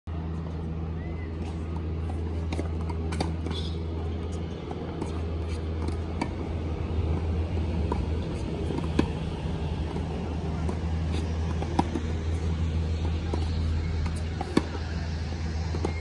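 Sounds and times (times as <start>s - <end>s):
steady low hum: 0.1s - 16.0s
balls bouncing on hard court: 1.4s - 16.0s
tennis balls struck by racquets: 1.7s - 16.0s.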